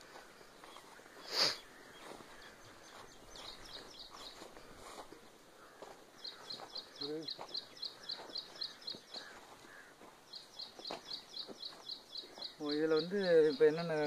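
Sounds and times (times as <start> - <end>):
faint outdoor background noise: 0.0 - 14.0
small bird chirping: 0.6 - 5.0, 5.6 - 14.0.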